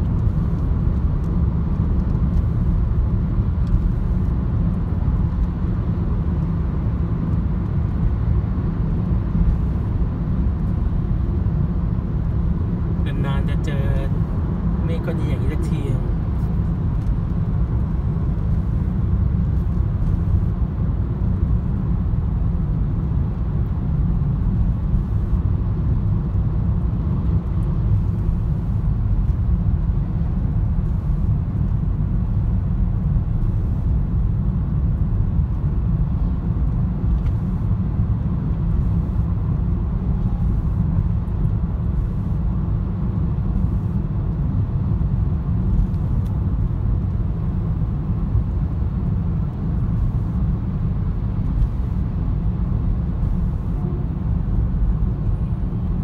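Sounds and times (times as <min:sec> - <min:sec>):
car engine hum: 0:00.0 - 0:56.0
road and tyre noise: 0:00.0 - 0:56.0.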